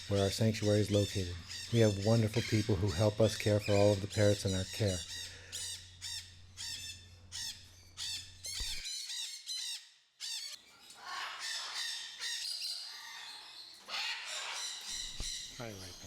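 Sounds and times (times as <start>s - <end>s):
chorus of birds calling: 0.0s - 16.0s
parrots squawking: 0.0s - 16.0s.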